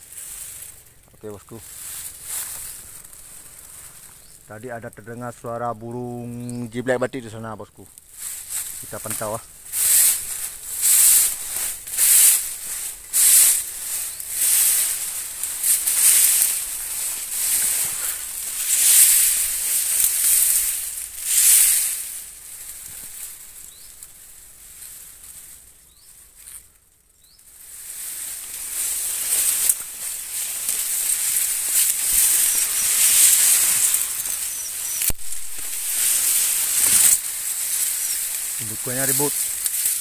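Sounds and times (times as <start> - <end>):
leaves and grass rustling on microphone: 0.0 - 40.0.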